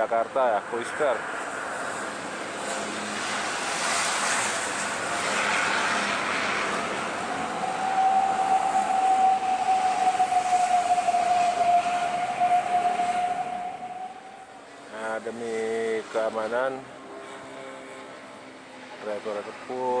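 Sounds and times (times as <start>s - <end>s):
road traffic passing: 0.0s - 20.0s
steady high whine: 0.0s - 20.0s.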